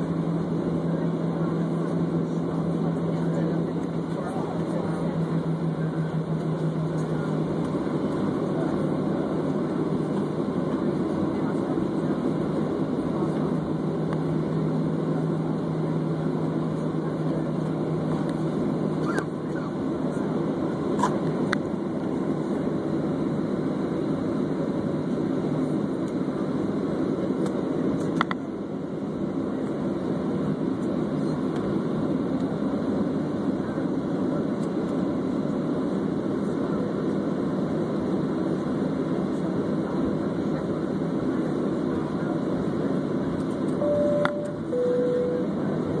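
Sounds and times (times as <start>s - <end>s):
jet airliner cabin rumble: 0.0s - 46.0s
steady low hum: 0.0s - 46.0s.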